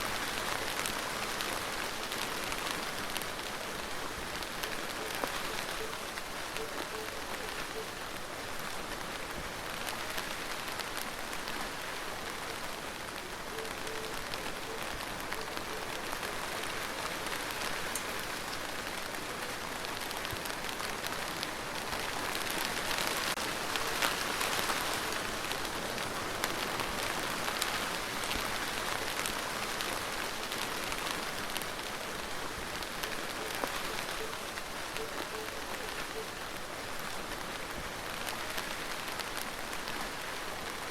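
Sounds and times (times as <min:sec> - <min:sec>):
raindrops ticking: 0:00.0 - 0:40.9
steady rain falling: 0:00.0 - 0:40.9.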